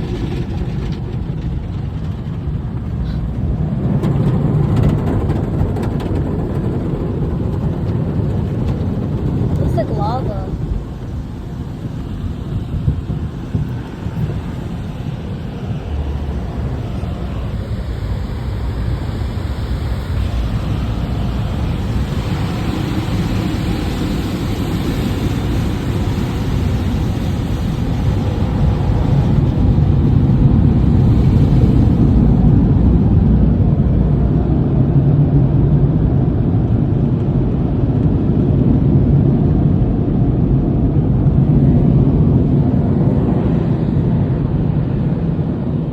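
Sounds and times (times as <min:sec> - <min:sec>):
car wash rumbling: 0:00.0 - 0:45.9
low hum: 0:00.0 - 0:45.9.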